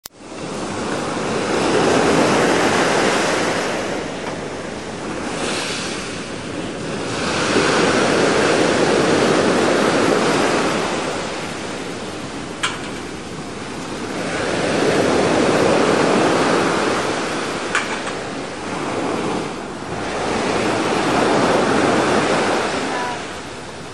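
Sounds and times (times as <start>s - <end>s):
sea waves breaking on shore: 0.2s - 23.9s
wind buffeting microphone: 0.2s - 23.9s.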